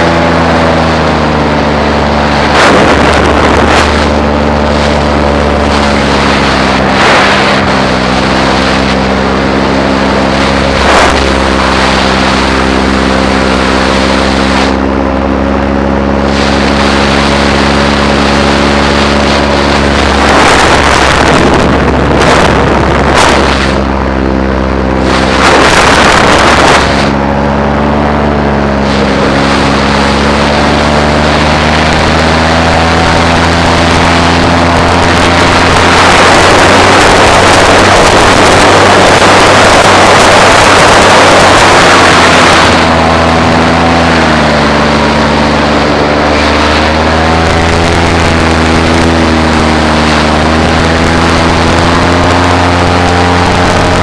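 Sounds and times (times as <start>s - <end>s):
paramotor engine and propeller: 0.0s - 54.0s
wind buffeting microphone: 0.0s - 54.0s.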